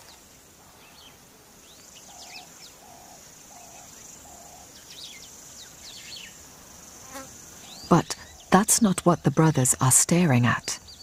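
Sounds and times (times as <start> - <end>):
high insect drone: 0.0 - 9.7.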